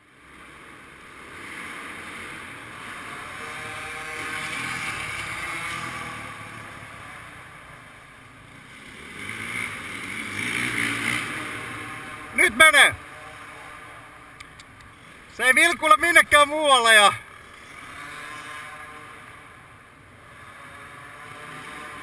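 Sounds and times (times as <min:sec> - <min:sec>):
motocross bike engine revving: 0:00.3 - 0:22.0.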